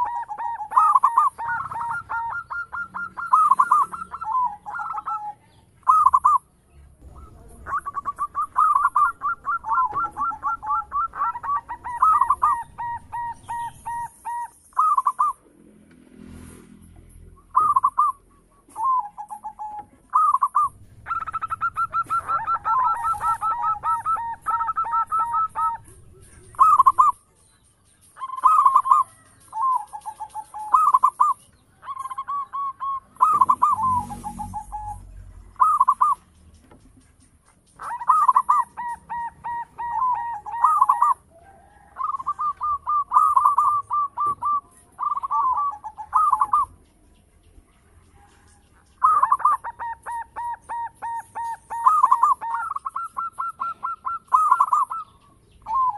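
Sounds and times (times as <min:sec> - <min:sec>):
dove cooing: 0:00.0 - 0:15.5, 0:17.4 - 0:47.3, 0:48.1 - 0:55.9.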